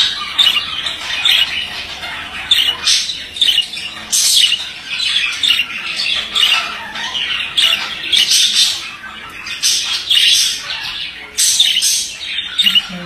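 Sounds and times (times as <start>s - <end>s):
budgerigar warbling and chattering: 0.0s - 13.0s
harsh bird squawks: 0.0s - 13.0s.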